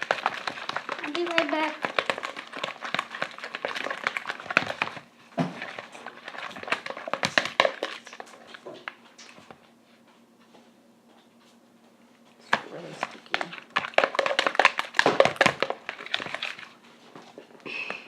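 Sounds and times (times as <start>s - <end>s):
slime being stirred in a bowl: 0.0s - 9.7s, 12.4s - 18.0s.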